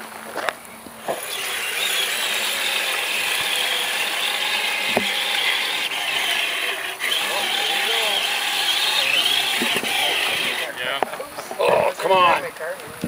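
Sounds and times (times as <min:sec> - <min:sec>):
electric motor and gearbox whirring: 0:00.3 - 0:12.6.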